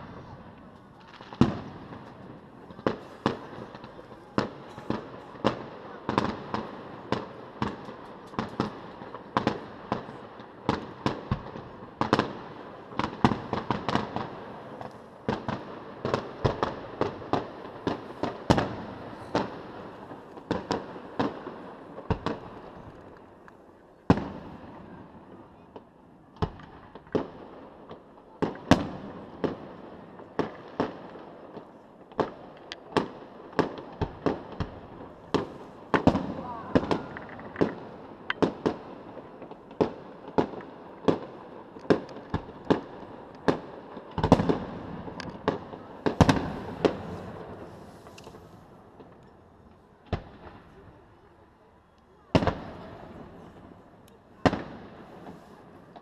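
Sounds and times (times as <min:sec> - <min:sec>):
fireworks bursting with bangs: 0:00.0 - 0:56.0.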